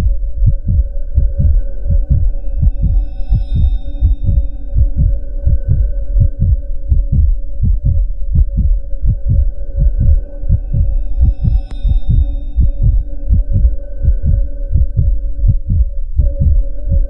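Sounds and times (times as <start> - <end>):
droning held tones: 0.0 - 17.0
heartbeat thumps: 0.0 - 17.0.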